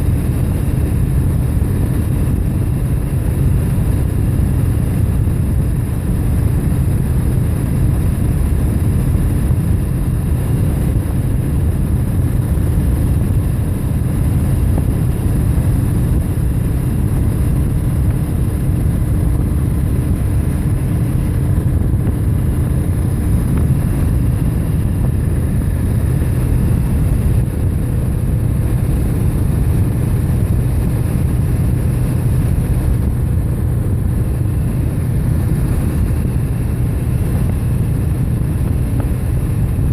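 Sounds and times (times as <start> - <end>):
wind and road noise on microphone: 0.0 - 39.9.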